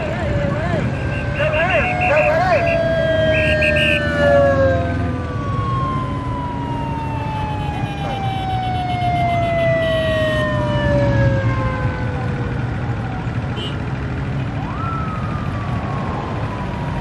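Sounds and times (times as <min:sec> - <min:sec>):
motorcycle siren wailing: 0:00.0 - 0:17.0
traffic rumble: 0:00.0 - 0:17.0.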